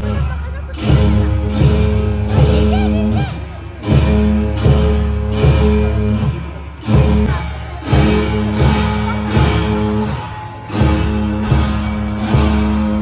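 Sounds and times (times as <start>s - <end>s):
drum strikes: 0.0s - 13.0s.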